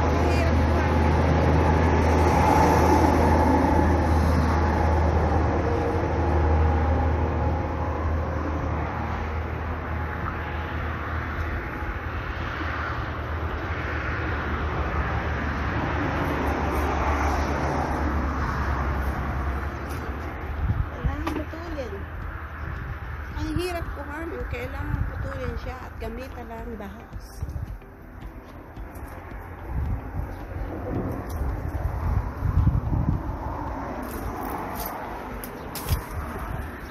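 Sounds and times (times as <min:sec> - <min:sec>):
outdoor noise: 0:00.0 - 0:36.9.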